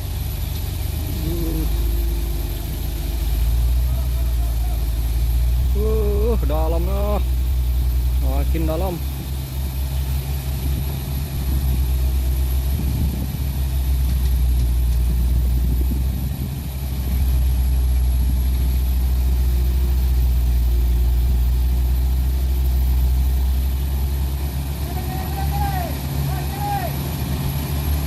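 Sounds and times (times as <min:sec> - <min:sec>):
truck diesel engine drone: 0:00.0 - 0:28.0.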